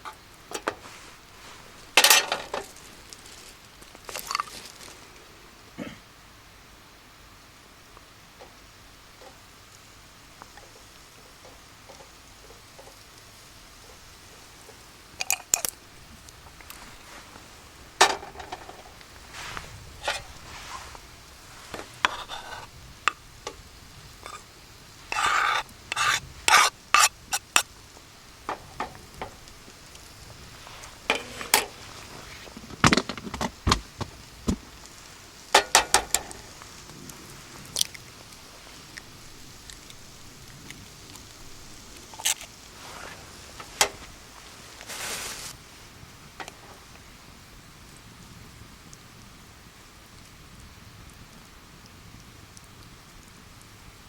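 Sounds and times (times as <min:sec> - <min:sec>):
faint steady background noise: 0:00.0 - 0:54.0.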